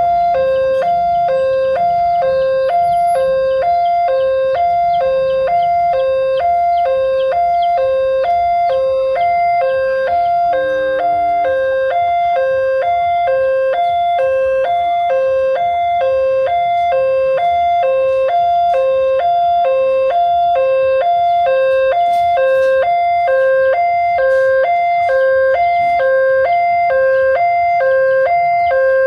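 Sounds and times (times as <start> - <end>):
level crossing two-tone alarm: 0.0 - 29.0.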